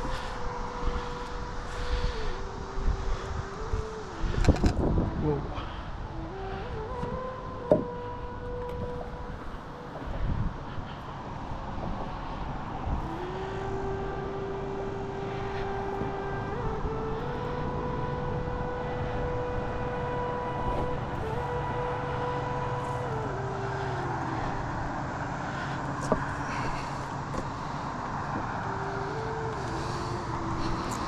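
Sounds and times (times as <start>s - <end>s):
distant engine droning: 0.0s - 31.0s.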